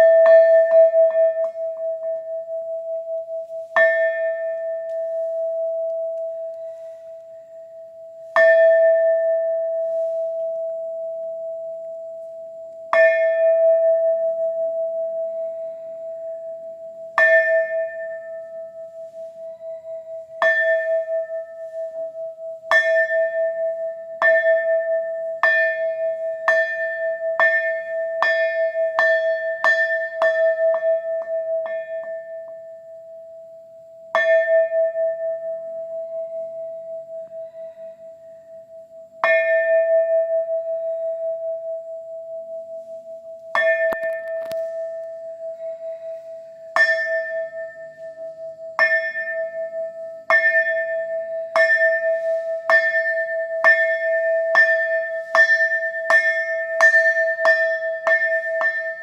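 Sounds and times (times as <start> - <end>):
temple bell struck: 0.0 - 7.1, 8.2 - 12.0, 12.9 - 18.9, 19.5 - 32.9, 39.2 - 59.0.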